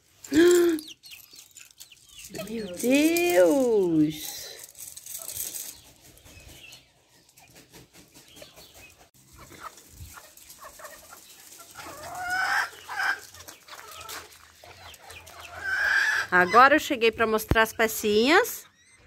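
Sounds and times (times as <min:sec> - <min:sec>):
chickens clucking: 0:00.6 - 0:03.0, 0:03.6 - 0:19.0.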